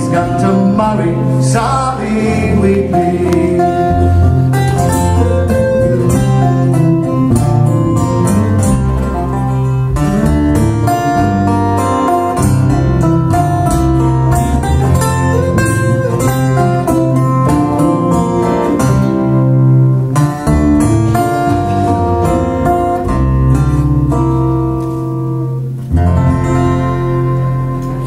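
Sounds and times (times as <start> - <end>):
acoustic guitars folk music: 0.0 - 28.0.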